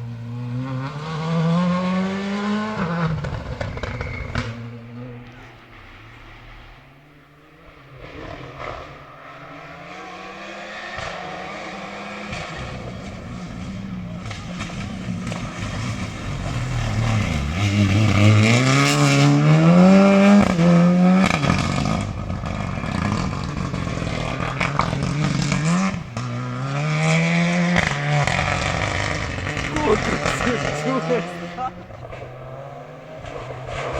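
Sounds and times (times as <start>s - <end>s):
rally car engine at full throttle: 0.0s - 33.9s.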